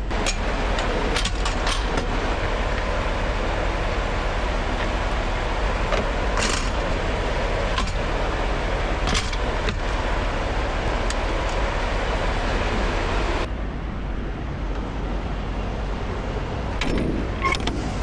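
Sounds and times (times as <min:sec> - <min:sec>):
truck engine rumble: 0:00.0 - 0:18.0.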